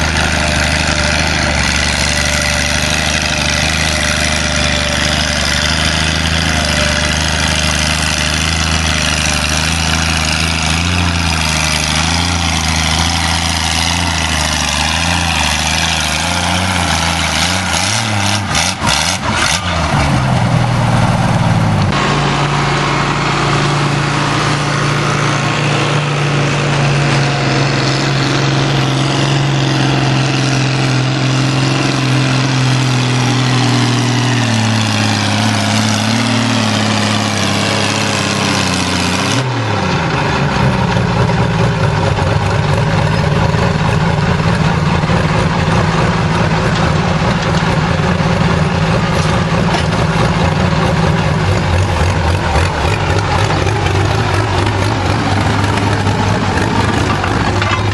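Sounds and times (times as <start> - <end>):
steady engine running: 0.0 - 57.9
tractor engine running hard: 0.0 - 57.9.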